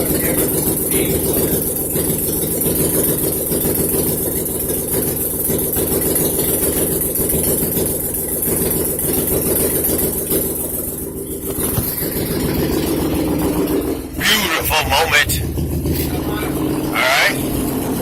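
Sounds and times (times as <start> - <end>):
car engine idling open exhaust: 0.0 - 18.0.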